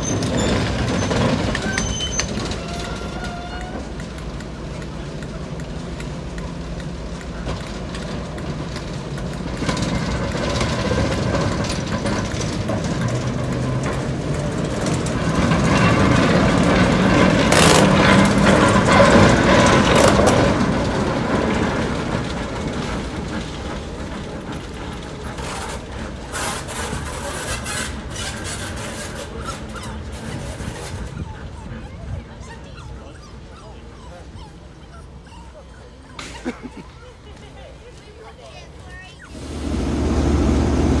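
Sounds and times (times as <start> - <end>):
diesel locomotive engine running: 0.0 - 35.2, 36.7 - 41.0.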